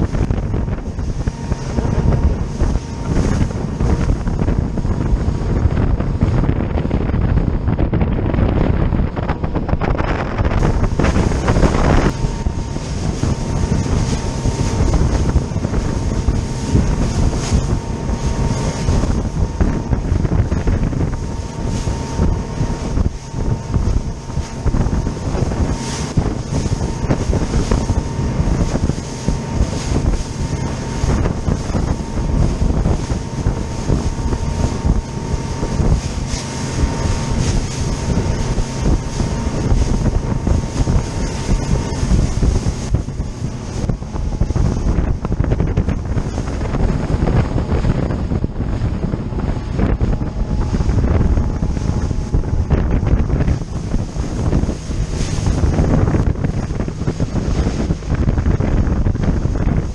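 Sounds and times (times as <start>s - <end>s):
boat engine drone: 0.0s - 59.9s
hull slapping through spray: 0.0s - 59.9s
wind buffeting microphone: 0.0s - 59.9s.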